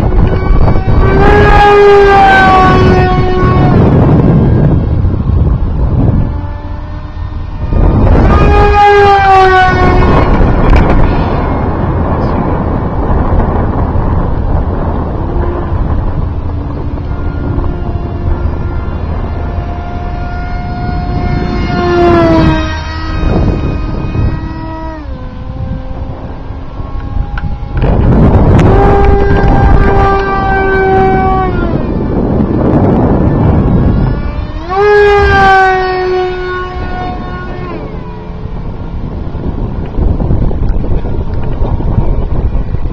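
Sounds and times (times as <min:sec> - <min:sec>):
model jet motor whining: 0:00.0 - 0:42.9
wind noise on microphone: 0:00.0 - 0:42.9.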